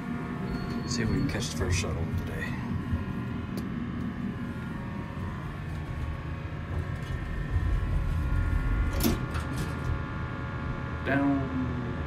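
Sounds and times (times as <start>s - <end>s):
elevator rumble and hum: 0.0s - 12.0s.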